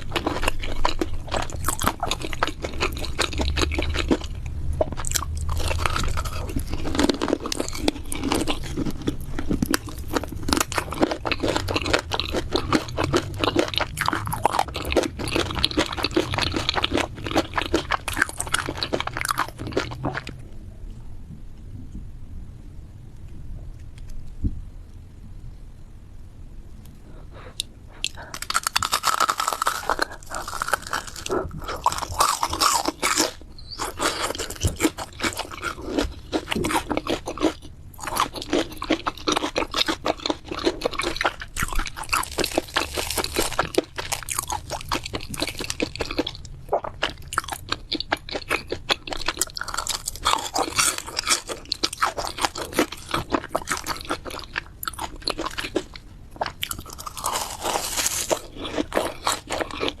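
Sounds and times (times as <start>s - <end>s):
chewing crispy fried food: 0.0s - 20.6s, 26.9s - 60.0s.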